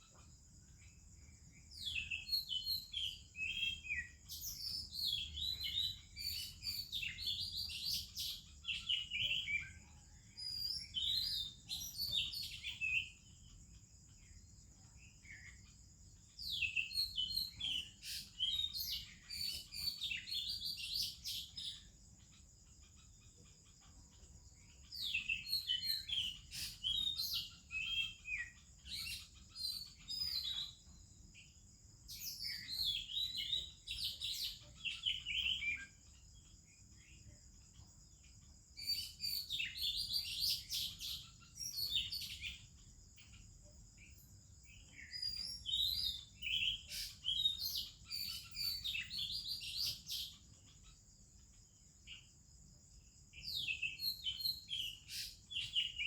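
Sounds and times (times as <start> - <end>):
bird singing whistles and warbles: 0.0 - 56.0.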